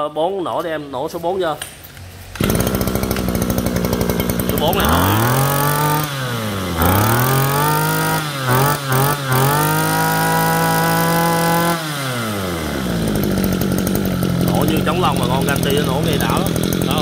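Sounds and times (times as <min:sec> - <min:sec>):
brush cutter engine revving: 0:02.3 - 0:17.0.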